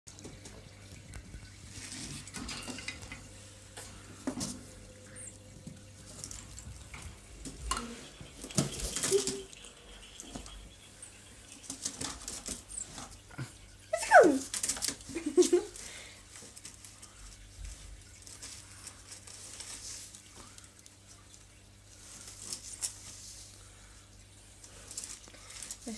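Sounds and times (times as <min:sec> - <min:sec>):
rustling of bedding: 0:00.2 - 0:10.6, 0:11.6 - 0:25.9.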